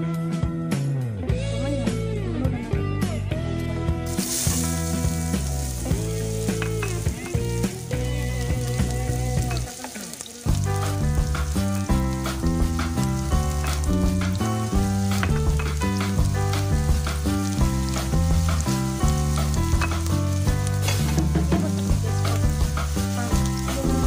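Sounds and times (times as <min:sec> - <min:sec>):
background music with bass line: 0:00.0 - 0:24.0
onions sizzling in oil: 0:04.1 - 0:24.0.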